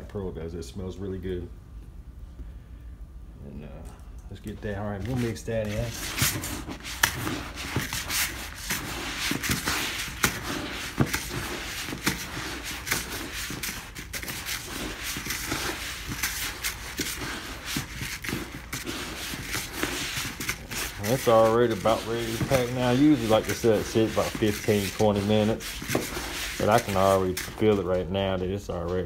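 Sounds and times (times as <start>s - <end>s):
hand kneading pellets in a bowl: 4.8s - 29.0s.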